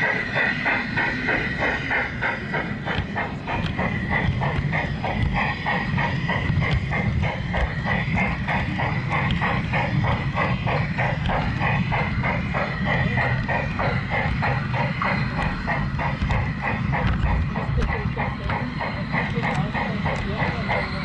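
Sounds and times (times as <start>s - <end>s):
steady high whine: 0.0s - 21.0s
steady ticking of train wheels: 0.0s - 21.0s.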